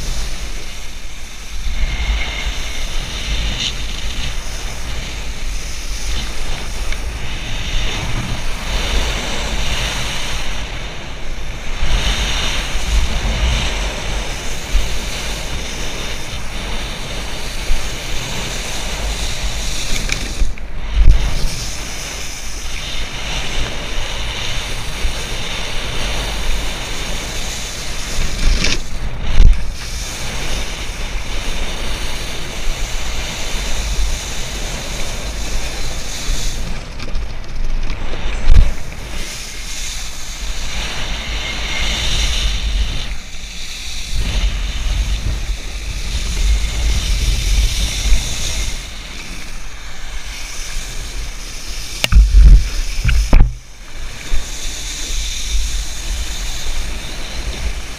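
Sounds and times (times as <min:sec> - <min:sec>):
wakeboard spraying across water: 0:00.0 - 0:57.9
wind buffeting microphone: 0:00.0 - 0:57.9.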